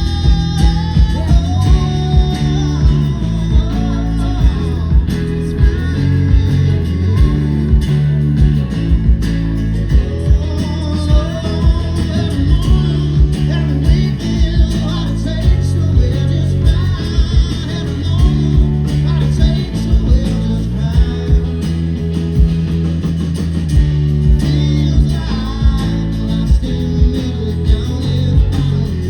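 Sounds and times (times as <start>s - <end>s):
live rock band playing: 0.0s - 29.0s
steady drum beat: 0.0s - 29.0s.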